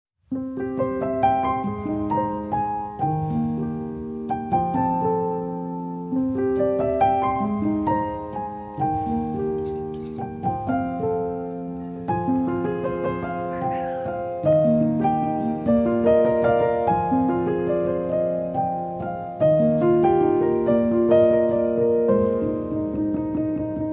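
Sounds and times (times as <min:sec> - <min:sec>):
piano music: 0:00.2 - 0:23.9.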